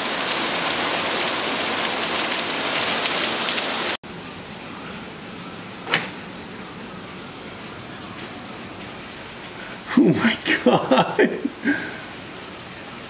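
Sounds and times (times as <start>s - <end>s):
heavy rain pouring on patio: 0.0s - 13.0s.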